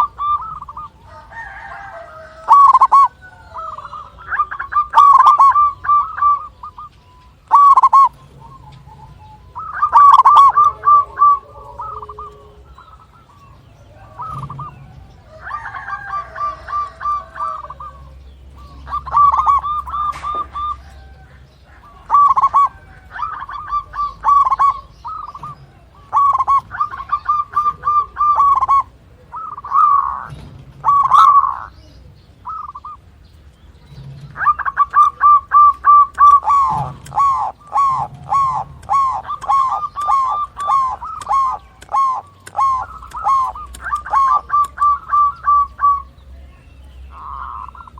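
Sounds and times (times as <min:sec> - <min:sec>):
dove cooing in staccato phrases: 0:00.0 - 0:47.9.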